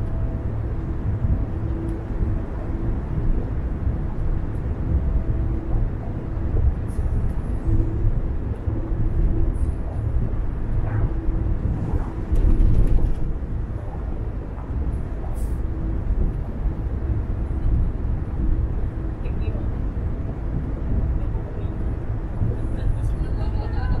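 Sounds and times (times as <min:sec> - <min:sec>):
car tyres and engine rumble: 0:00.0 - 0:24.0.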